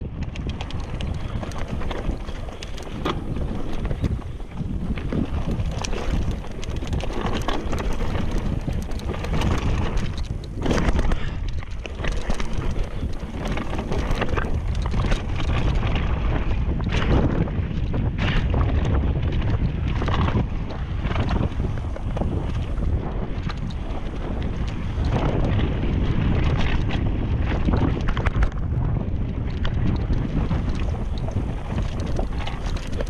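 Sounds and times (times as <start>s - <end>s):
bike knocking and rattling: 0.0s - 33.0s
wind buffeting microphone: 0.0s - 33.0s.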